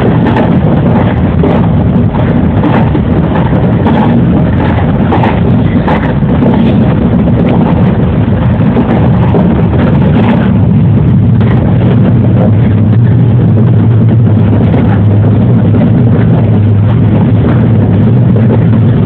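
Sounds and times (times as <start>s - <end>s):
low hum: 0.0s - 19.0s
train wheels and motors rumbling: 0.0s - 19.0s.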